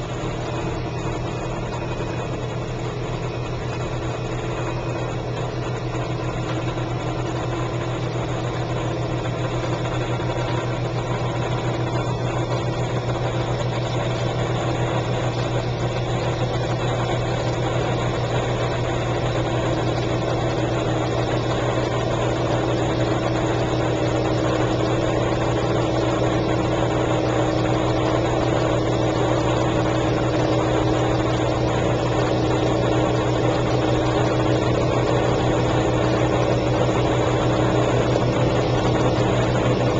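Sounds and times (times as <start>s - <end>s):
dishwasher motor hum: 0.0s - 39.9s.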